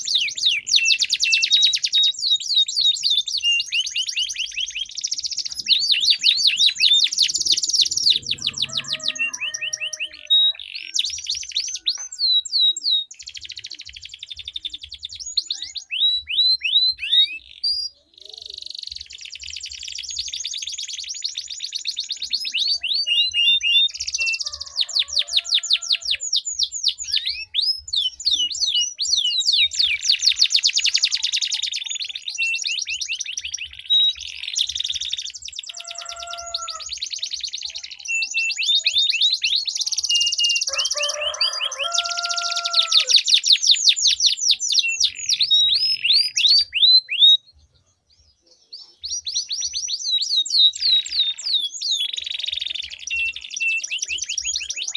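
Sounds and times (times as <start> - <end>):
canaries singing trills: 0.0 - 54.9.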